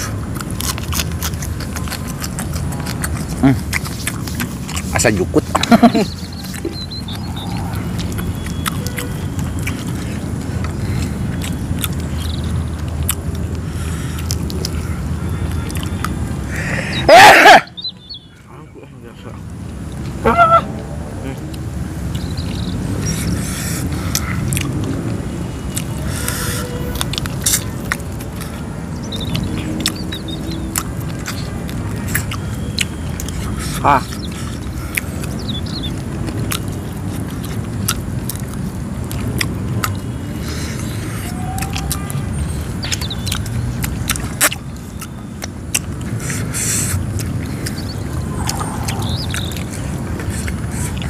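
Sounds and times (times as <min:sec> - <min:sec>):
person chewing food: 0:00.0 - 0:17.0, 0:19.6 - 0:51.0
mouth smacks: 0:00.0 - 0:18.2, 0:25.7 - 0:51.0.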